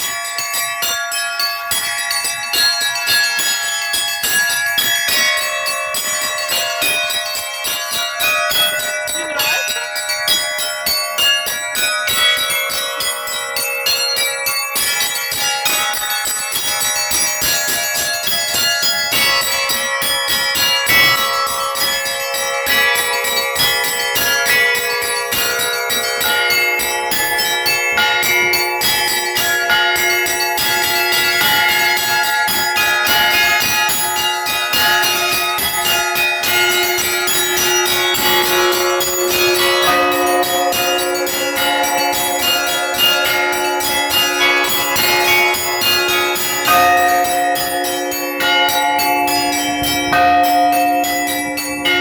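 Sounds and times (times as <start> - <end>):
church bells ringing: 0.0 - 52.0.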